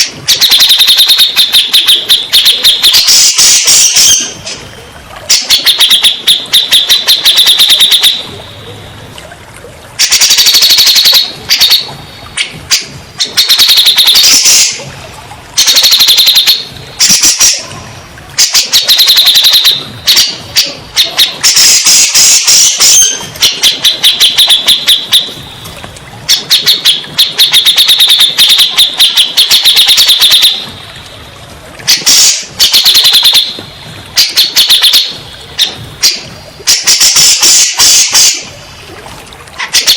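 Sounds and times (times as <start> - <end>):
bulbul trilled chattering song: 0.0 - 9.2, 10.0 - 14.9, 15.5 - 30.7, 31.8 - 33.6, 34.2 - 38.6.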